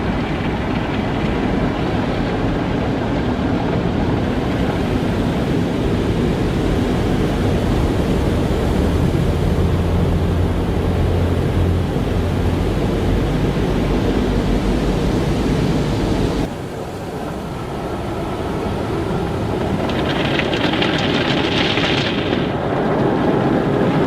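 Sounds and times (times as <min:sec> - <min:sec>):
car wash machinery and water spray: 0:00.0 - 0:24.0
low hum: 0:00.0 - 0:24.0.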